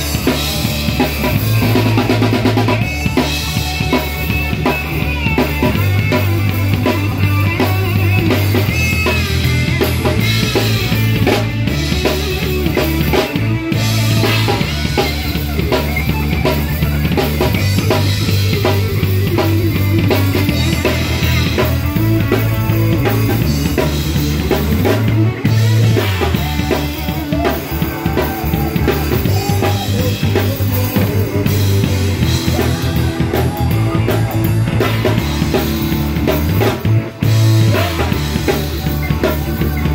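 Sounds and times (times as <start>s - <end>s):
drum kit: 0.0s - 39.9s
electric guitar: 0.0s - 39.9s
heavy low bass notes: 0.0s - 39.9s.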